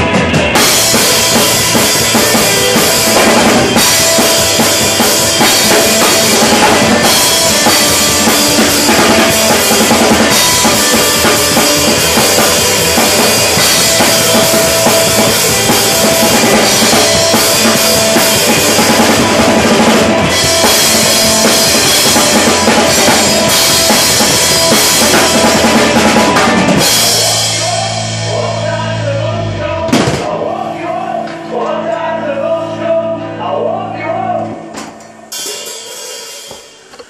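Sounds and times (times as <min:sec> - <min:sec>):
rock drum kit: 0:00.0 - 0:31.5, 0:34.1 - 0:37.0
recorded rock song: 0:00.0 - 0:37.0.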